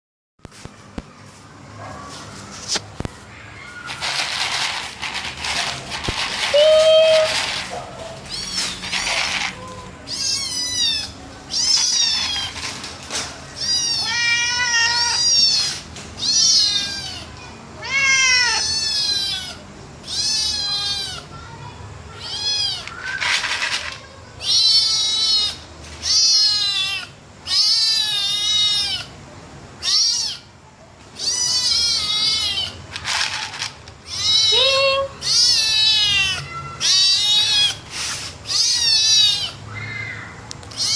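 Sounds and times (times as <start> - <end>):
cats meowing: 3.1 - 21.4, 22.1 - 29.2, 29.8 - 30.5, 31.1 - 33.4, 34.0 - 40.9.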